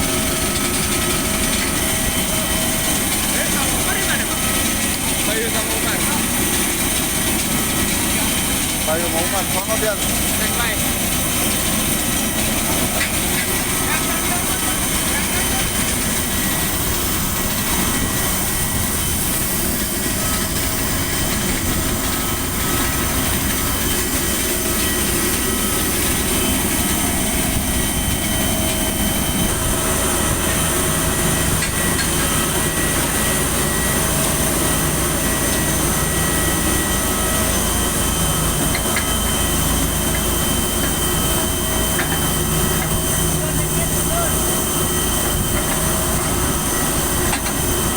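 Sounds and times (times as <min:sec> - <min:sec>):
high whining engine tones: 0:00.0 - 0:47.9
jet engines roaring: 0:00.0 - 0:47.9.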